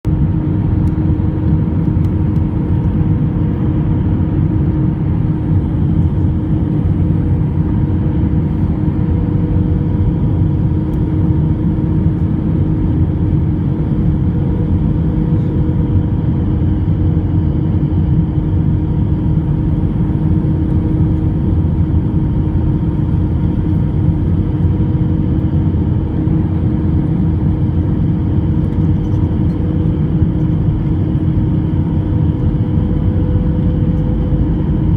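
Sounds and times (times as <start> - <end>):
jet engines running: 0.1 - 34.9.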